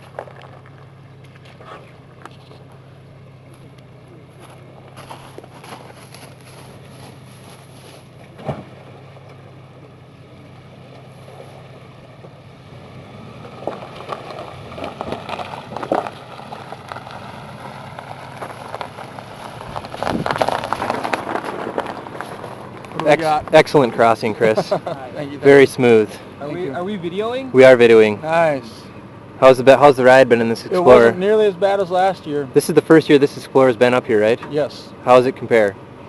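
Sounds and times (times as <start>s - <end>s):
suv engine humming: 0.0s - 36.0s.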